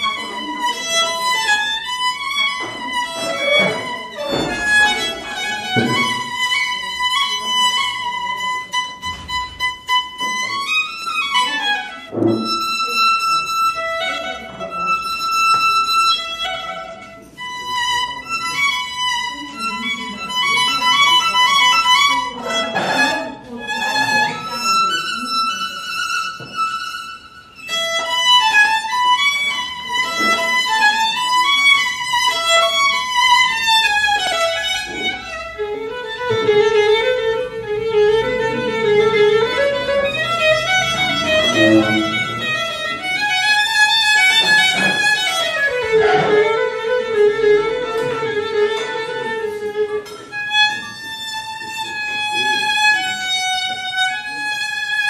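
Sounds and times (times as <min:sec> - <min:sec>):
violin playing: 0:00.0 - 0:55.0.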